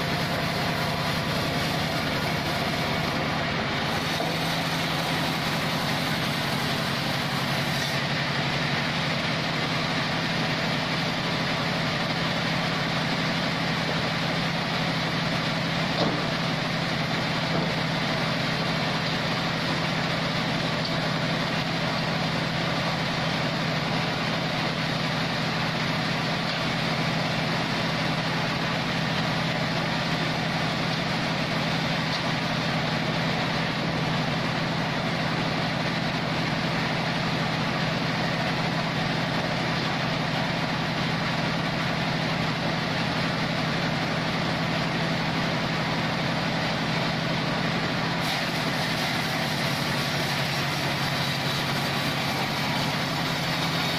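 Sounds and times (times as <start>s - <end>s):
band sawmill droning: 0.0s - 53.9s.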